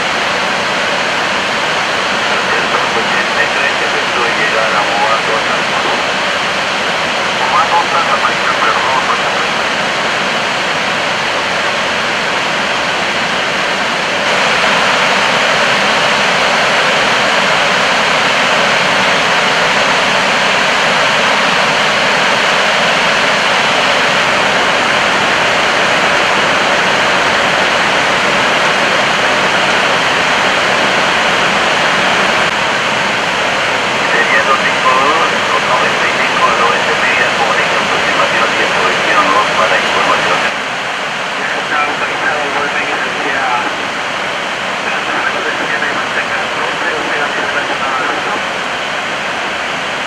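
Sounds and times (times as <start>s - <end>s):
airflow rushing in cockpit: 0.0s - 50.0s.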